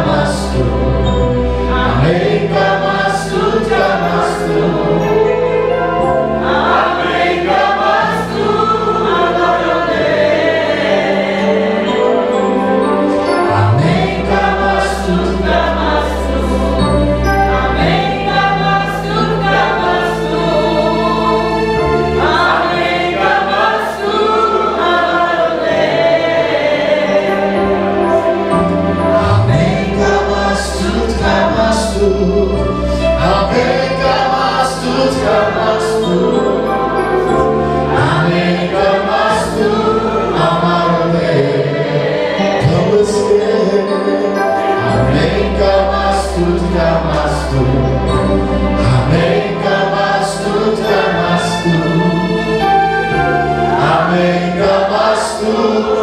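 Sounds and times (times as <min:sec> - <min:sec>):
group of voices singing: 0:00.0 - 0:56.0.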